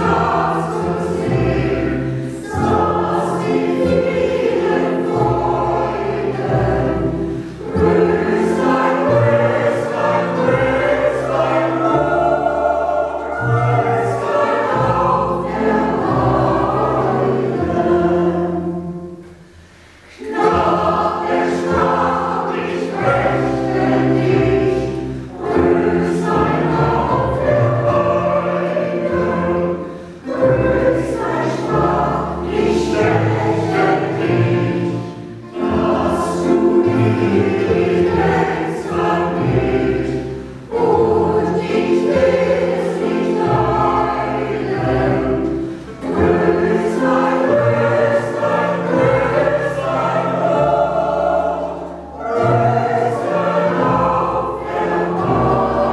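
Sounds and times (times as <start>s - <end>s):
mandolin orchestra: 0.0s - 55.9s
mixed choir singing: 0.0s - 55.9s.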